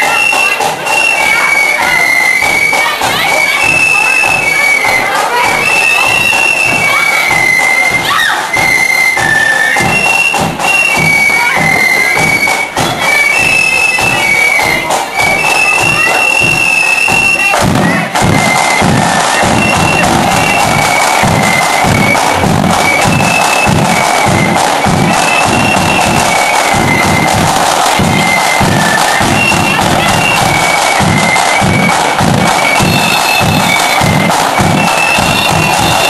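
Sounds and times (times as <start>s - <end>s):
drum beat: 0.0s - 36.0s
flutes playing high melody: 0.0s - 36.0s.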